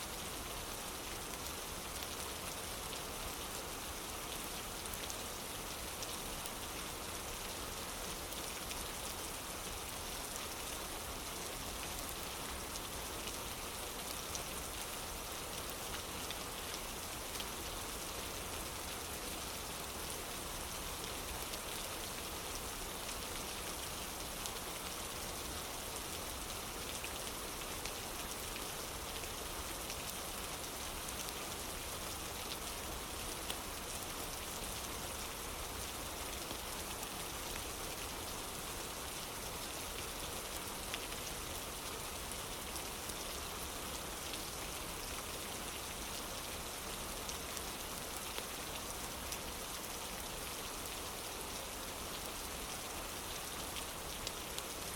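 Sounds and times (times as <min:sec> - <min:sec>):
rain on a wooden porch: 0:00.0 - 0:54.9.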